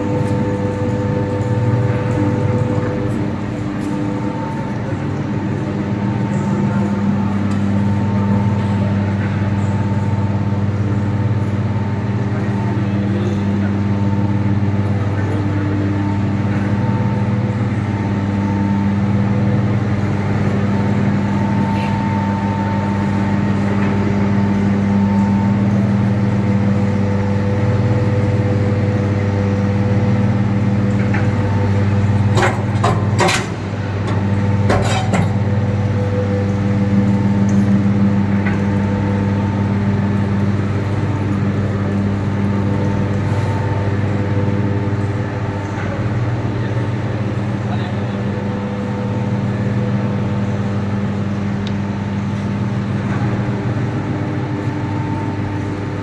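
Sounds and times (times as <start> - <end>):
feed mill machine humming: 0.0 - 56.0.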